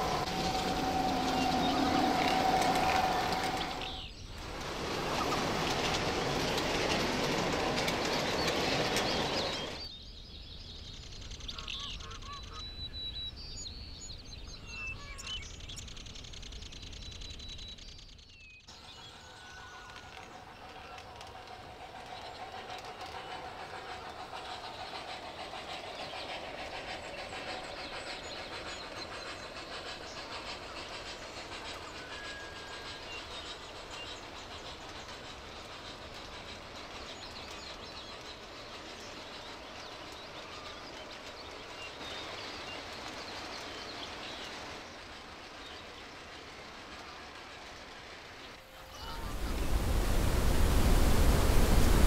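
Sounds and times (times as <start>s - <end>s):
train running on rails: 0.0s - 52.0s.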